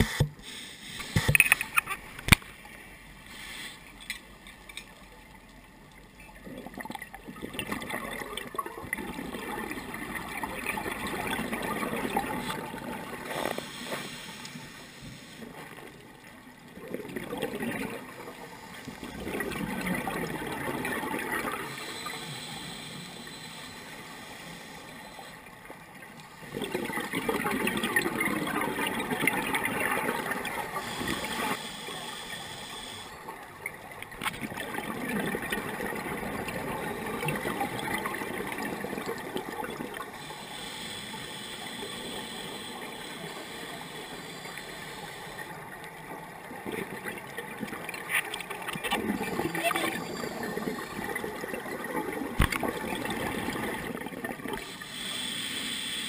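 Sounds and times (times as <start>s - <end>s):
underwater breathing bubbles: 6.5s - 15.9s, 16.7s - 25.6s, 26.3s - 33.5s, 34.4s - 56.0s.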